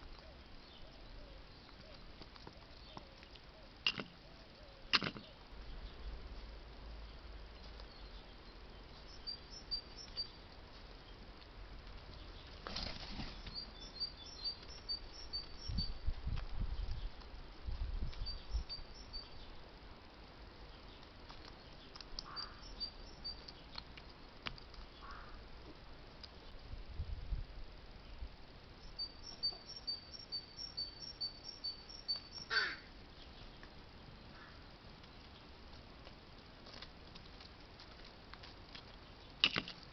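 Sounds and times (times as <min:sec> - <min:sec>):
small birds chirping: 0:00.0 - 0:26.7, 0:27.9 - 0:39.9.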